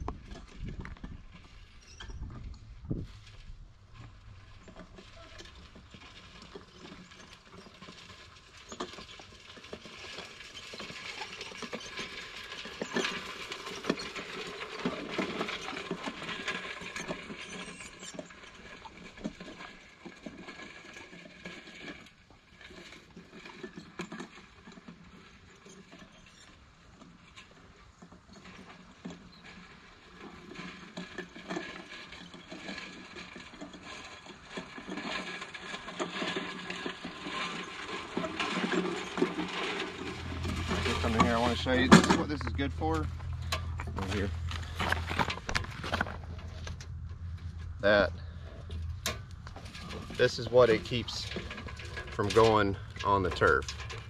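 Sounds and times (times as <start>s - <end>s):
spreader drum clicking and rattling: 4.0s - 54.0s.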